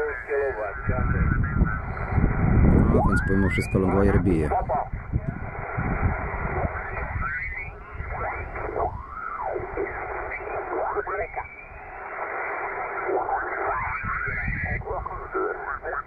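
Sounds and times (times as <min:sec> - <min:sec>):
radio static: 0:00.0 - 0:16.0
radio voice transmission: 0:00.0 - 0:16.0.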